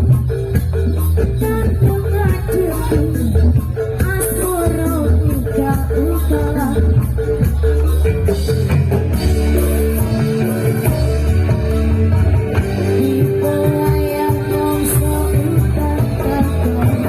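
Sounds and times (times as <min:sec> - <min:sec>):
dance accompaniment music: 0:00.0 - 0:17.0.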